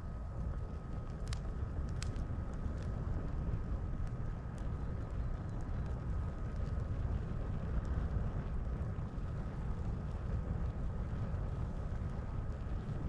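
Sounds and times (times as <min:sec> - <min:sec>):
campfire low rumble: 0:00.0 - 0:13.0
wood crackling and popping: 0:00.0 - 0:13.0.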